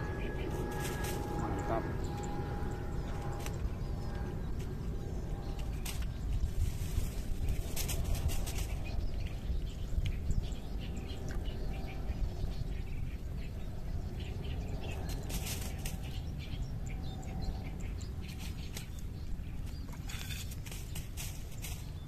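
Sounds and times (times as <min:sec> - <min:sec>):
birds chirping: 0:00.0 - 0:22.0
wind rumble on microphone: 0:00.0 - 0:22.0.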